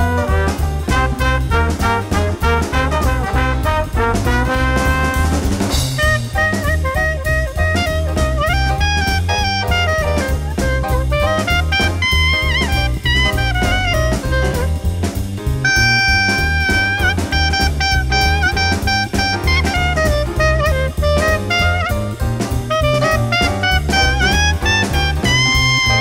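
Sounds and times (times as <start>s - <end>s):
bass line: 0.0s - 26.0s
jazz music: 0.0s - 26.0s
steady drum beat: 0.0s - 26.0s.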